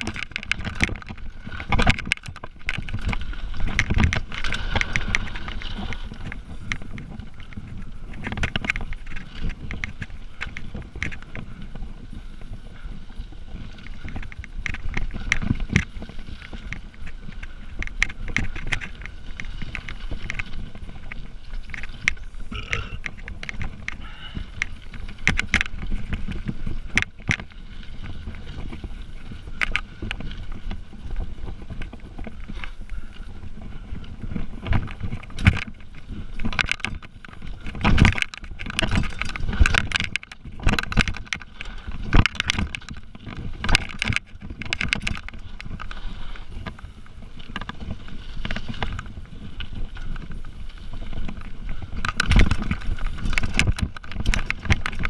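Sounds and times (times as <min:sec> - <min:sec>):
bike and chain rattling: 0:00.0 - 0:55.0
tyre and wind rush: 0:00.0 - 0:55.0.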